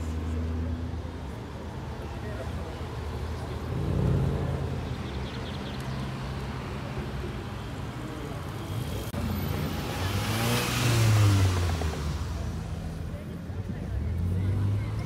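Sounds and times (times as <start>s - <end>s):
car engine and exhaust drone: 0.0s - 15.0s
cars driving past: 0.0s - 15.0s.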